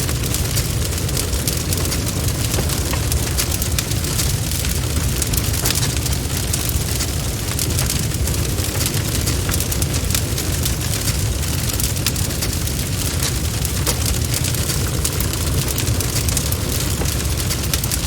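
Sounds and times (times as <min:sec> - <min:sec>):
bonfire rumbling: 0:00.0 - 0:18.0
wood crackling and popping: 0:00.0 - 0:18.0.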